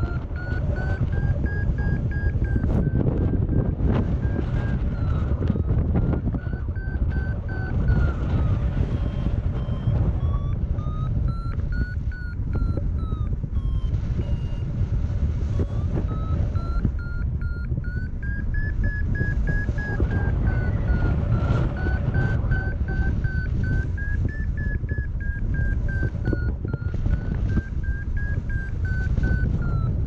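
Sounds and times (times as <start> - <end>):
variometer short beeps: 0.0 - 30.0
wind rushing over microphone: 0.0 - 30.0.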